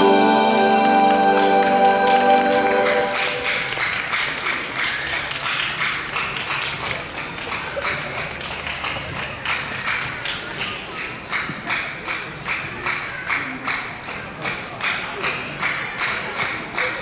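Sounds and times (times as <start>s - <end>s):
audience clapping: 0.0s - 17.0s.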